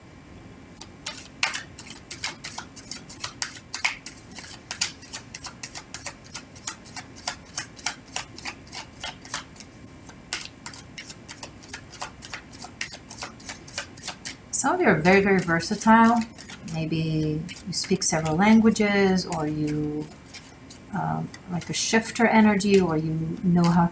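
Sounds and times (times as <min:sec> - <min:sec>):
cards shuffling clicks: 0:00.8 - 0:14.4, 0:15.3 - 0:23.8.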